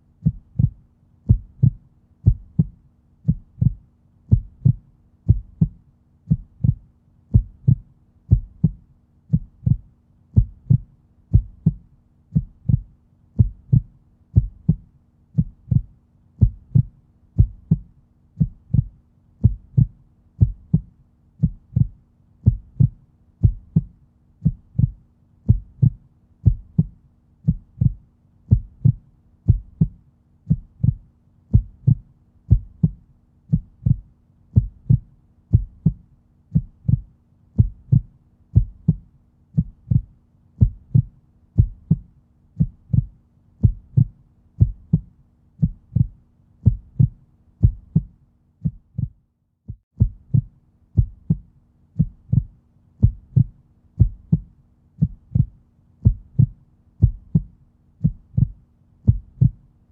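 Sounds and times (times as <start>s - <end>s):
faint steady hum: 0.0s - 49.2s, 50.0s - 59.9s
heartbeat thumps: 0.2s - 59.6s.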